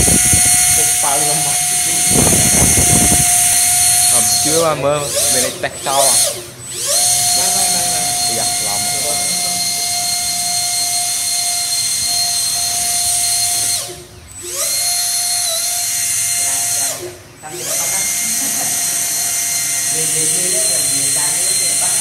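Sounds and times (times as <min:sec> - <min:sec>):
electric ducted fan whining: 0:00.0 - 0:22.0.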